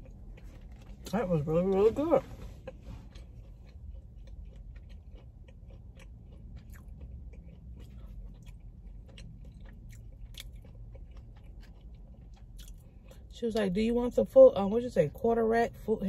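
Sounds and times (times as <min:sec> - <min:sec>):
person chewing: 0:00.0 - 0:13.3
low steady hum: 0:00.0 - 0:16.0.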